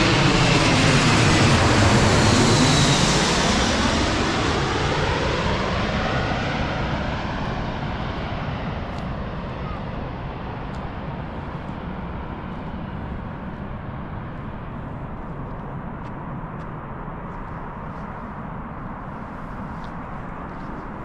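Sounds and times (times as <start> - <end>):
jet engine low rumble: 0.0 - 21.0.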